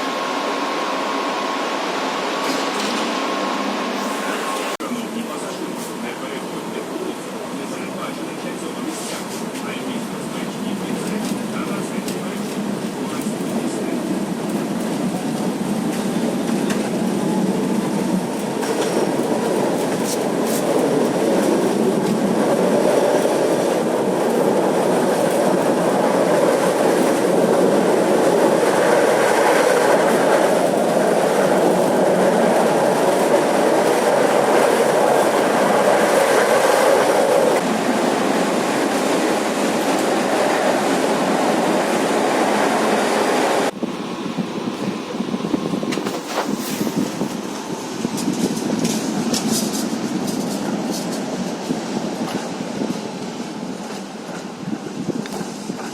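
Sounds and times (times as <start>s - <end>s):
tram running on rails: 0.0s - 55.9s.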